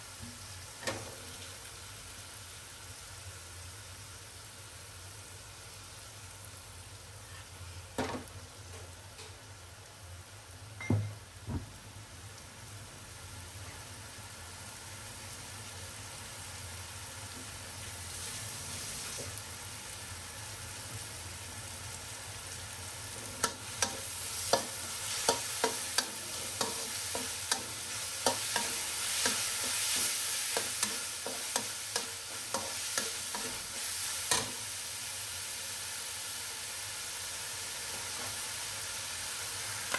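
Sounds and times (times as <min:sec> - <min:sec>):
meat sizzling in a wok: 0:00.0 - 0:39.9.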